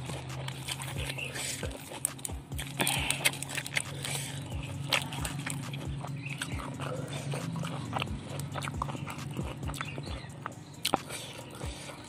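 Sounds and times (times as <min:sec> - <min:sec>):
crisp chewing crunches: 0:00.0 - 0:12.0
low hum: 0:00.0 - 0:12.0
wet mouth clicks and lip smacks: 0:00.0 - 0:12.0.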